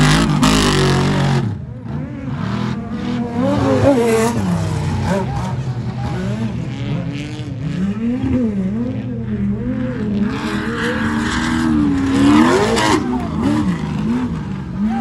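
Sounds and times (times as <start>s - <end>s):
race engines revving: 0.0s - 15.0s.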